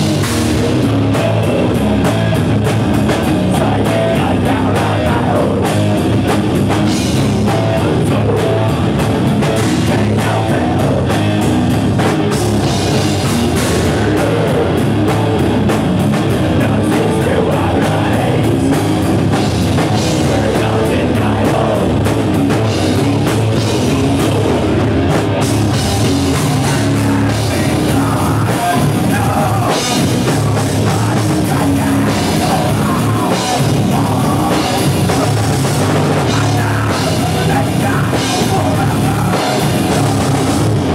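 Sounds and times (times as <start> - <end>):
drum kit: 0.0 - 40.9
electric guitar: 0.0 - 40.9
person singing: 3.1 - 6.0, 6.9 - 11.6, 12.4 - 15.4, 16.3 - 40.9.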